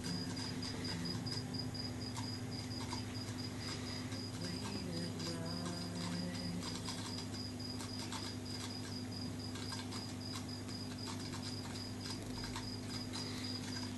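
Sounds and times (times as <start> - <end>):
aquarium equipment humming: 0.0 - 13.9.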